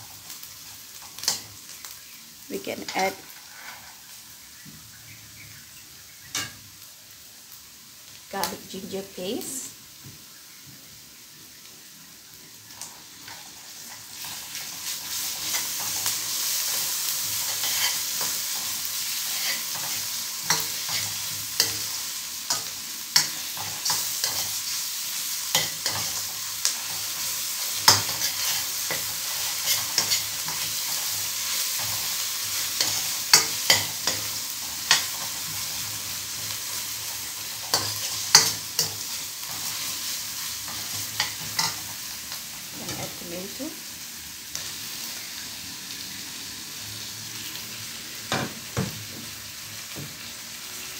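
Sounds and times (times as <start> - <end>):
onions frying in hot oil: 0.0 - 50.9.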